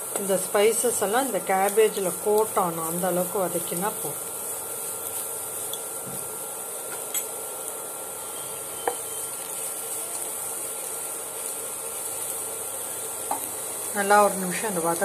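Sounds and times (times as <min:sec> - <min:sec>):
cabbage sizzling in oil: 0:00.0 - 0:15.0.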